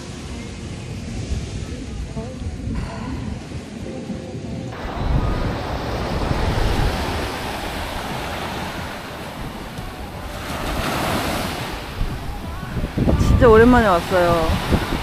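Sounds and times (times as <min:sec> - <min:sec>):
ocean surf breaking on shore: 0:00.0 - 0:15.0
wind rumbling on microphone: 0:00.0 - 0:15.0.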